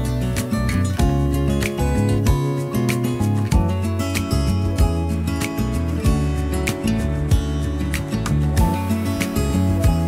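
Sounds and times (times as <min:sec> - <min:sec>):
steady beat: 0:00.0 - 0:10.0
strummed acoustic guitar: 0:00.0 - 0:10.0.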